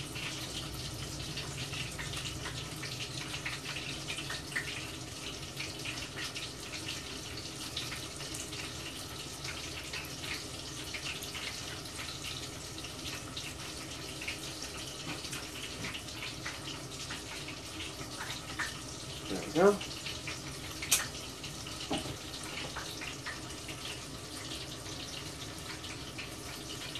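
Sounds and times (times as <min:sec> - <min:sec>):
deep-frying sizzle and pops: 0:00.0 - 0:26.9.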